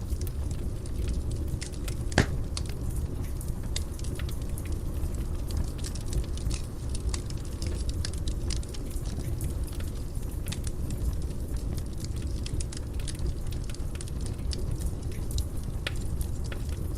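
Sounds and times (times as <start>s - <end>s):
fire popping and crackling: 0.0s - 16.9s
low rumble of flames: 0.0s - 16.9s.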